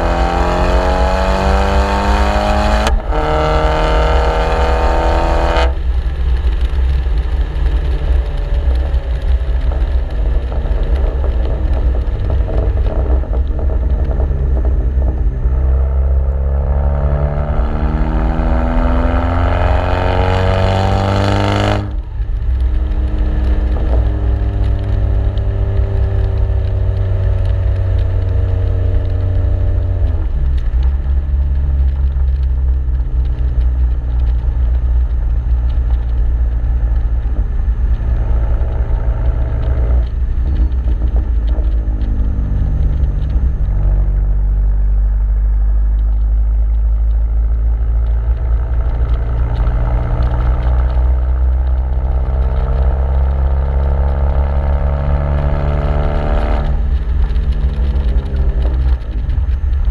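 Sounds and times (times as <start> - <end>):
car exhaust note: 0.0 - 59.9.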